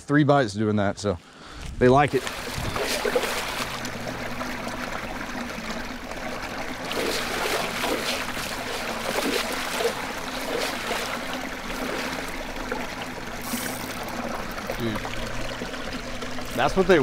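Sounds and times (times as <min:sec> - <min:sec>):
water splashing against dock: 0:01.6 - 0:17.0.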